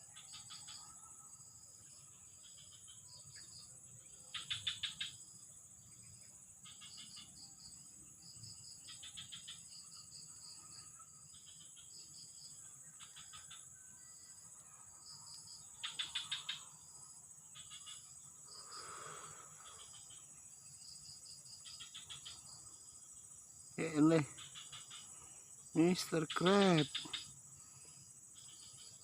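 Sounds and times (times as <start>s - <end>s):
cricket chirps: 0.0s - 29.0s
insects droning: 0.0s - 29.0s.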